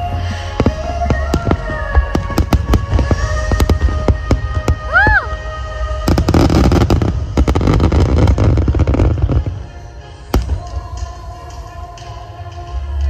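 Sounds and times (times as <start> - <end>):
fireworks crackling bursts: 0.0 - 11.8.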